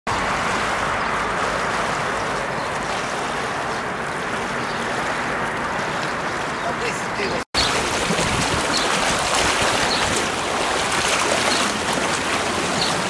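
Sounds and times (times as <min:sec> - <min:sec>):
floodwater rushing: 0:00.1 - 0:13.0.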